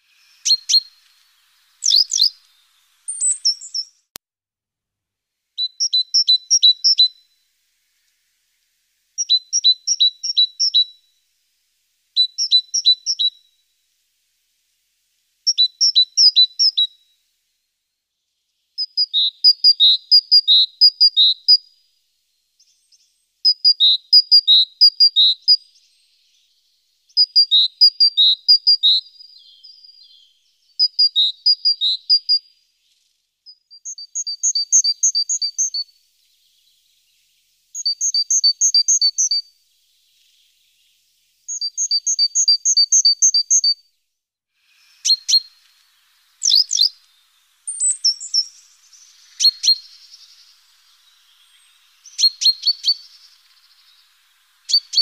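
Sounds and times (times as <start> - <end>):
small songbird singing: 0.0 - 4.2, 5.6 - 55.0.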